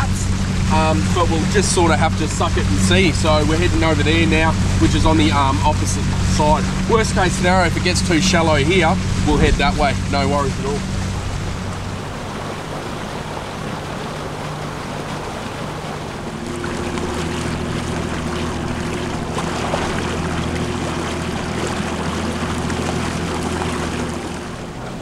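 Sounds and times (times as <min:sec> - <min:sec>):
outboard motor running: 0:00.0 - 0:25.0
wind: 0:00.0 - 0:25.0.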